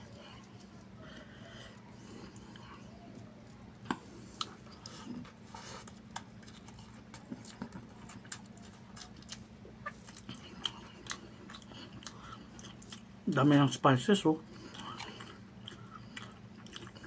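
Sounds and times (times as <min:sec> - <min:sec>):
steady low hum: 0:00.0 - 0:17.0
chewing and mouth smacks: 0:02.0 - 0:13.4, 0:14.4 - 0:17.0.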